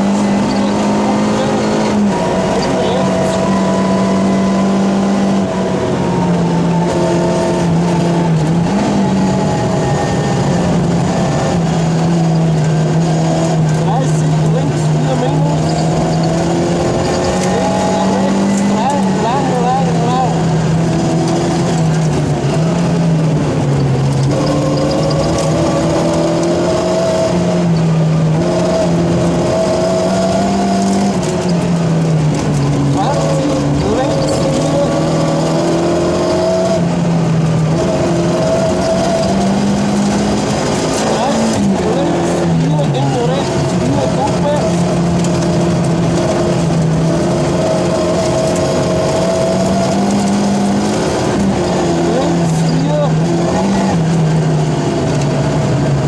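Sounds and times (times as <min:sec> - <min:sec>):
car engine running hard: 0:00.0 - 0:56.0
road noise rushing: 0:00.0 - 0:56.0.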